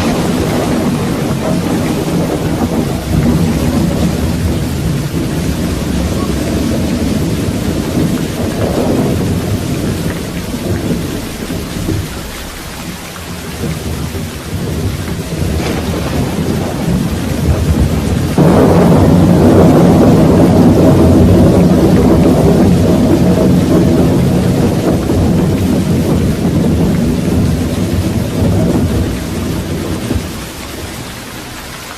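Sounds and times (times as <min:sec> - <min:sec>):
rolling thunder: 0:00.0 - 0:31.9
steady rain: 0:00.0 - 0:31.9.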